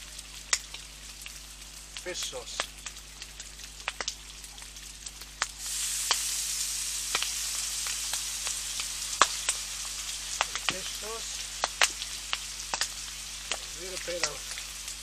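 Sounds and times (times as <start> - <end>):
meat sizzling in a pan: 0.0 - 15.0
sharp pops and ticks: 0.3 - 6.3, 7.0 - 15.0.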